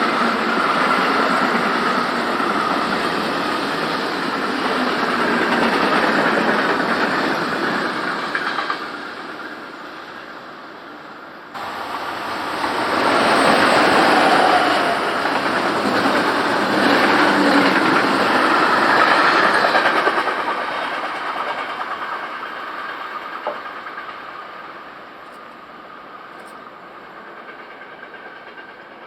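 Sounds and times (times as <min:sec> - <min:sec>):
train passing on track: 0:00.0 - 0:29.0.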